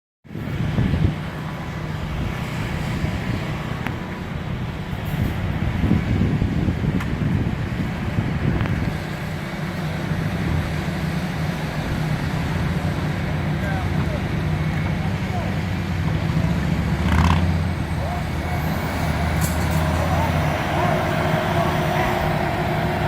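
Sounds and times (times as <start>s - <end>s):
diesel engine rumbling: 0.3s - 23.0s.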